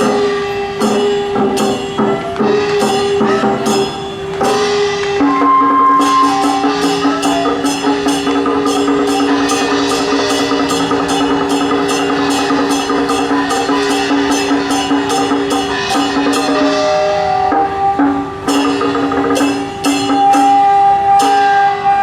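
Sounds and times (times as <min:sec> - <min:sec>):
held pitched notes: 0:00.0 - 0:22.0
percussion strikes: 0:00.0 - 0:22.0.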